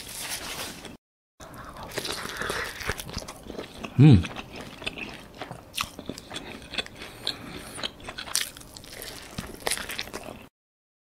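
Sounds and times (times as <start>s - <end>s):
person crunching toast: 1.5s - 10.5s.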